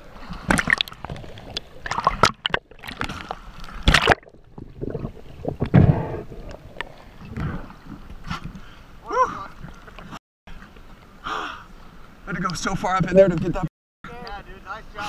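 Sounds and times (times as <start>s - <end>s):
water splashing and sloshing: 0.0s - 13.7s.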